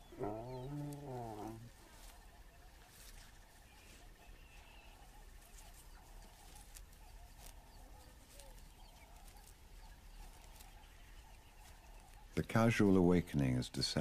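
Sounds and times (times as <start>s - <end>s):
bird calling in low notes: 0.0s - 12.6s.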